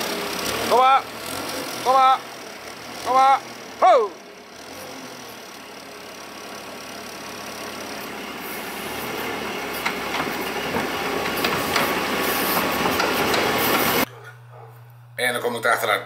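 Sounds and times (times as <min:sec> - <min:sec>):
diesel engine running: 0:00.0 - 0:14.7.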